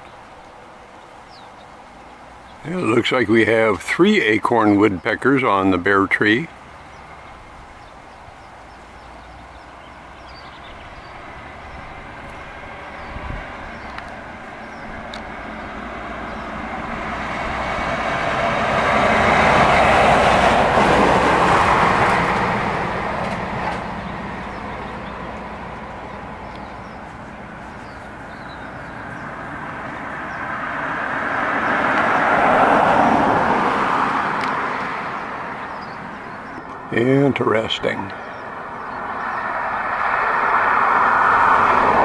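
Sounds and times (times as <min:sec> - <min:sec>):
vehicles passing: 0:00.0 - 0:42.0.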